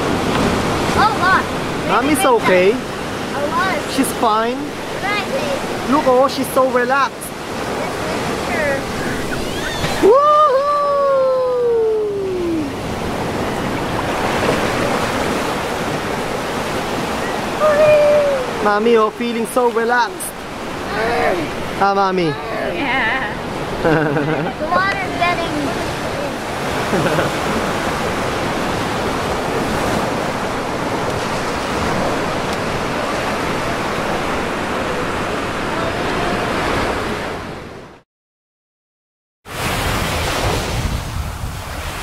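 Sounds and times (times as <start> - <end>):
ocean waves washing on shore: 0.0 - 38.0, 39.5 - 42.0.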